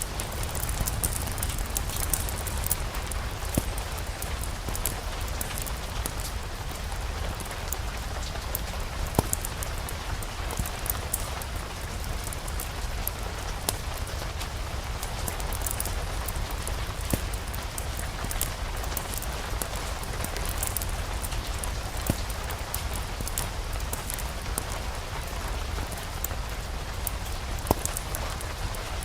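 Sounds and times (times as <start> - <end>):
sharp fire pops: 0.0 - 29.0
steady rain: 0.0 - 29.0
wood fire crackling: 0.0 - 29.0.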